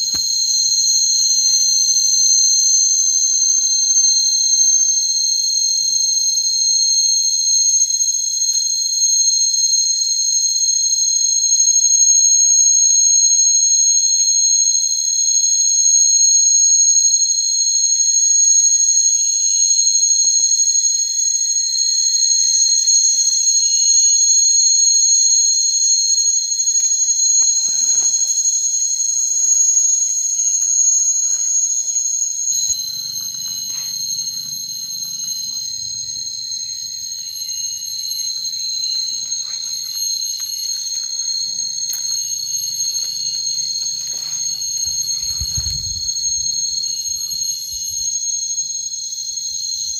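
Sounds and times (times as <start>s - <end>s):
pulsing insect trill: 0.0s - 49.9s
shrill insect chorus: 0.0s - 49.9s.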